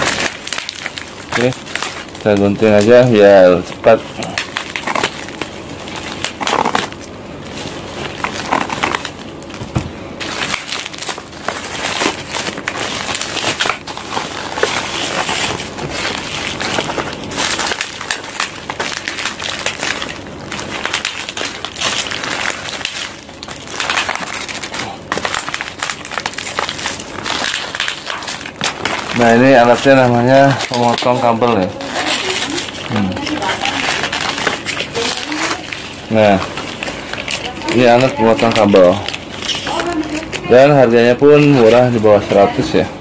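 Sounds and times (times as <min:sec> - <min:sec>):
bubble wrap rustling and crinkling: 0:00.0 - 0:43.0.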